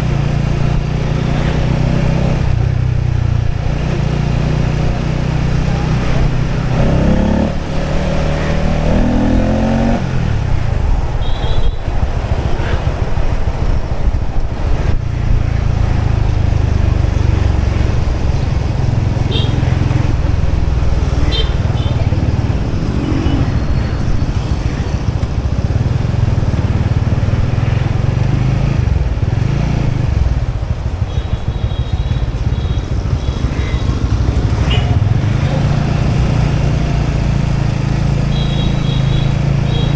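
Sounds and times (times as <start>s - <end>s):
motorbike engine rumbling: 0.0s - 39.9s.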